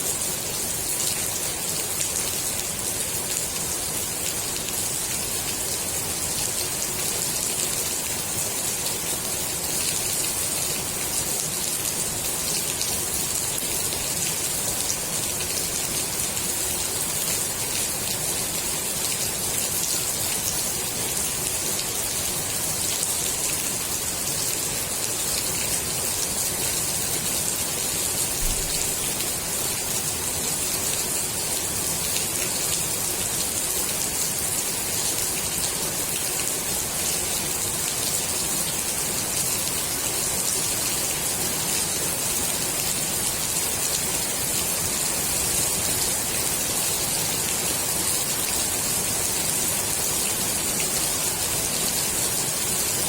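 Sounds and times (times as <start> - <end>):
rain falling on pool water: 0.0 - 53.0.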